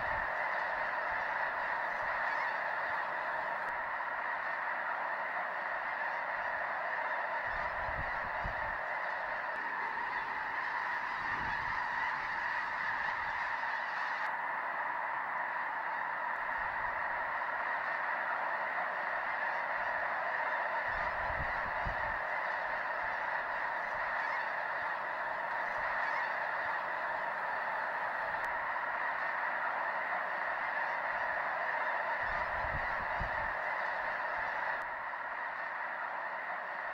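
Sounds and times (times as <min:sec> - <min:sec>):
geese honking: 0:00.0 - 0:36.9.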